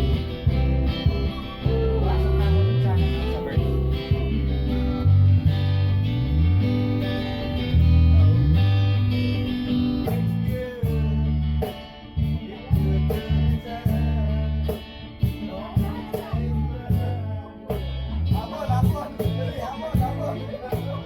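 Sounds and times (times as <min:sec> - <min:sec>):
choppy guitar chords: 0:00.0 - 0:21.0
guitar sliding low notes: 0:00.0 - 0:21.0.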